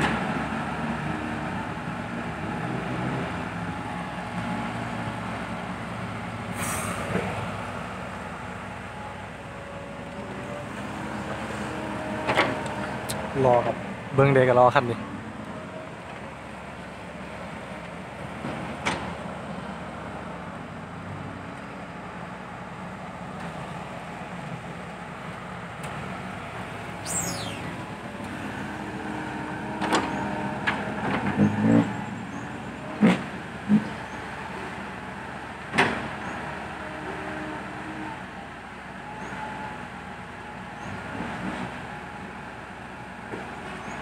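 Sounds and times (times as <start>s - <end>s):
dump truck diesel engines: 0.0s - 44.0s.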